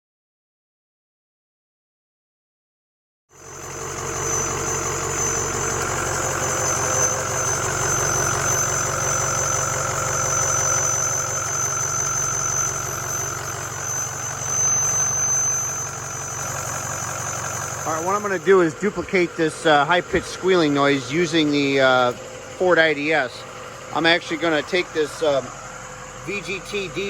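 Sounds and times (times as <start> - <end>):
diesel engine running: 3.3 - 27.0
high-pitched squeal: 3.4 - 27.0.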